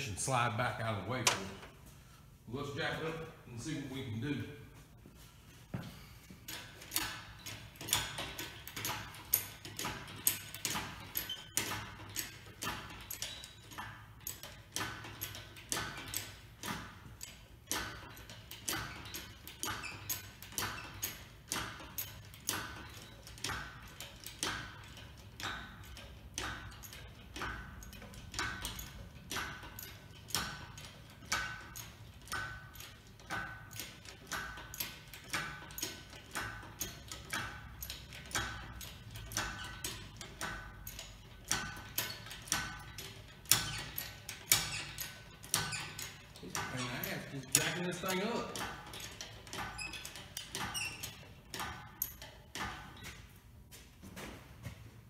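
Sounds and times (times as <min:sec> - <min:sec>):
engine hoist metallic clicks: 0:06.4 - 0:53.3.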